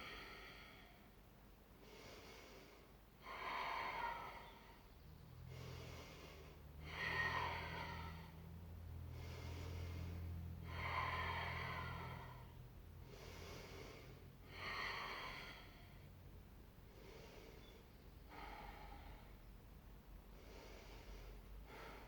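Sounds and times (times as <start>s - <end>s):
heavy breathing: 0.0s - 1.2s, 1.8s - 22.0s.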